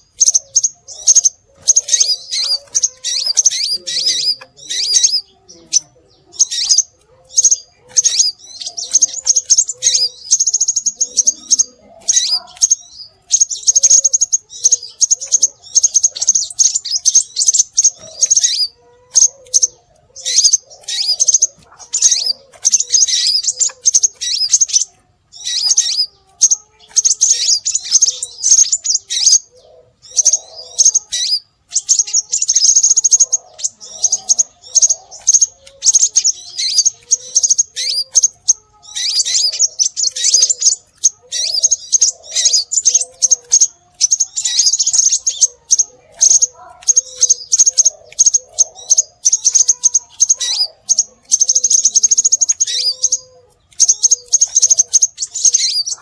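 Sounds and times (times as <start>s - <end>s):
bird chirping rapidly: 0.0s - 56.0s.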